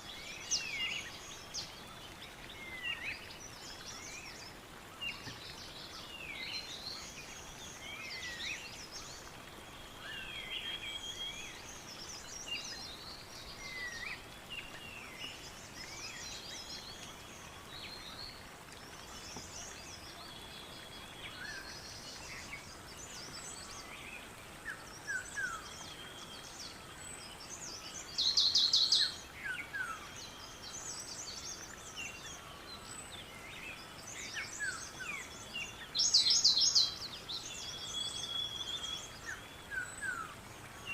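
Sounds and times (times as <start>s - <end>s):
soft background hiss: 0.0s - 40.9s.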